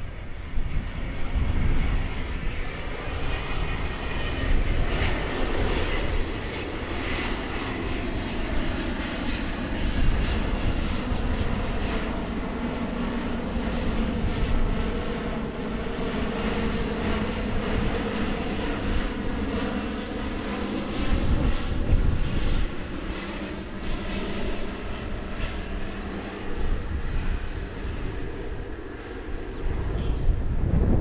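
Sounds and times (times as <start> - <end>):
jet airliner passing overhead: 0.0 - 31.0.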